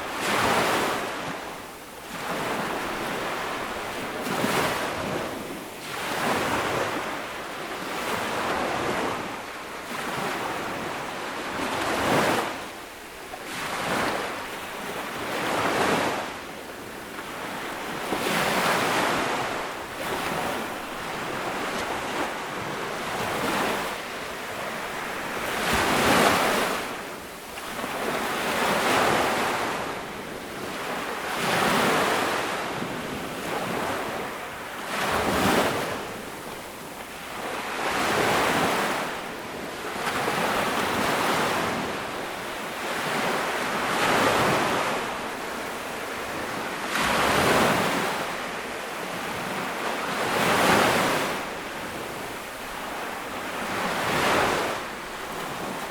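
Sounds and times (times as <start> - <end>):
small waves breaking on beach: 0.0 - 55.9.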